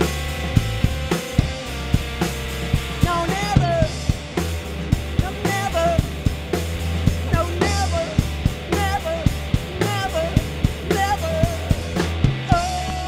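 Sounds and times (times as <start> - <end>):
bass line: 0.0 - 13.0
drum kit steady beat: 0.0 - 13.0
electric guitar riff: 0.0 - 13.0.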